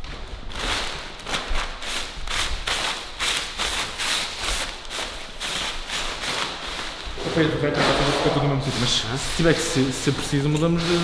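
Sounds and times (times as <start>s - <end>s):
paper wiping wet surface: 1.9s - 11.0s.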